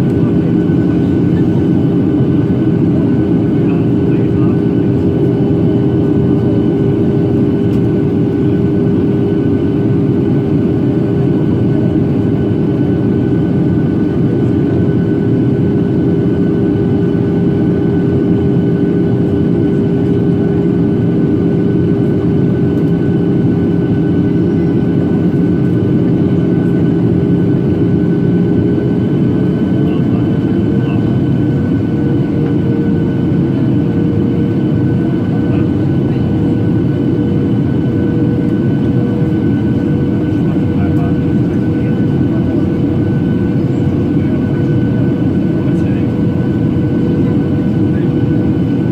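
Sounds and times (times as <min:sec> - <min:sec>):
airflow rushing in aircraft cabin: 0:00.0 - 0:48.9
jet engine hum: 0:00.0 - 0:48.9.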